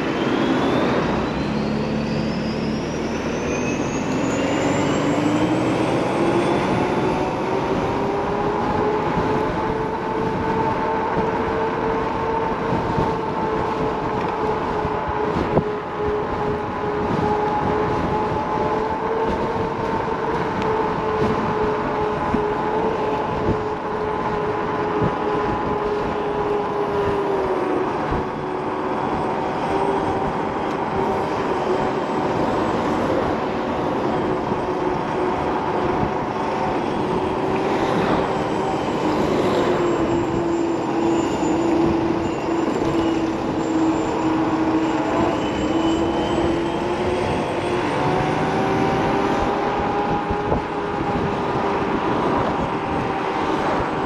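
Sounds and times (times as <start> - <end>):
electric scooter motor whining: 0.0 - 54.0
road noise: 0.0 - 54.0
wind noise: 0.0 - 54.0.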